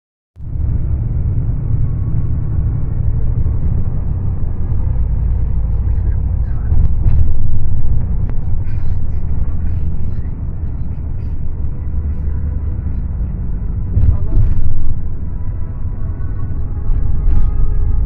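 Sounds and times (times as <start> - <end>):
bus engine and road rumble: 0.4 - 18.0.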